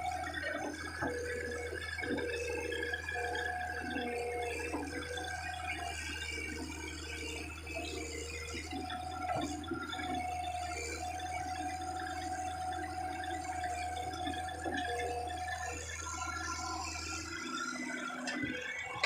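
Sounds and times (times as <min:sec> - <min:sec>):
excavator engine running: 0:00.0 - 0:19.0
hydraulic whining: 0:00.0 - 0:19.0.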